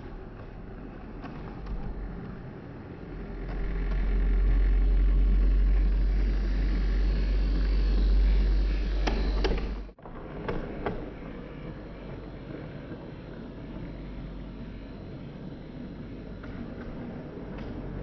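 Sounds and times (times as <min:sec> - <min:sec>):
model train rumbling: 0:00.0 - 0:18.0.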